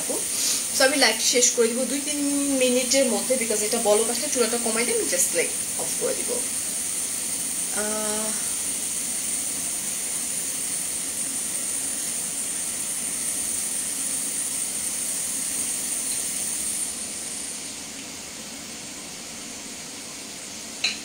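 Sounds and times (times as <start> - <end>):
gas stove burners hissing: 0.0 - 21.0.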